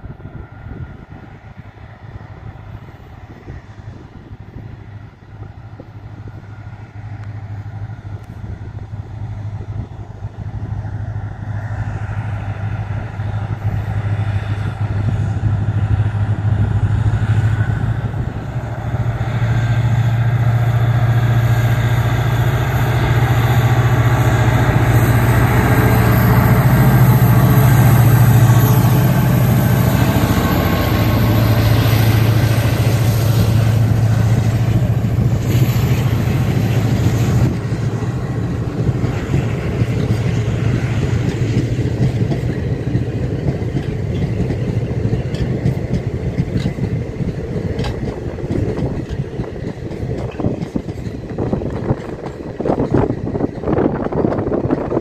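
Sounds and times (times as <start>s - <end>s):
diesel locomotive engine drone: 0.0s - 55.0s
wheel-on-rail noise: 5.4s - 55.0s.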